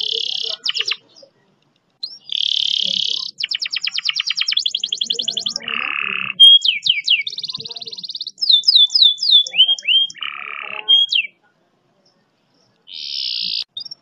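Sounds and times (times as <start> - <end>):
canary singing rolls and trills: 0.0 - 14.0.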